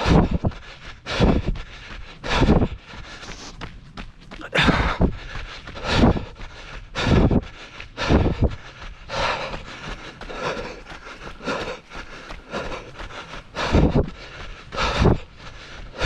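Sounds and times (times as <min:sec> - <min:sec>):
person breathing: 0:00.0 - 0:03.7, 0:04.4 - 0:16.0
running footsteps on dirt: 0:00.0 - 0:16.0
wind buffeting microphone: 0:00.0 - 0:16.0.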